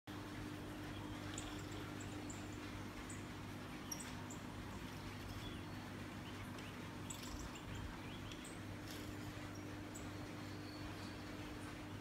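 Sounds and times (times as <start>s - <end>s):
small birds chirping: 0.1s - 12.0s
steady low hum: 0.1s - 12.0s.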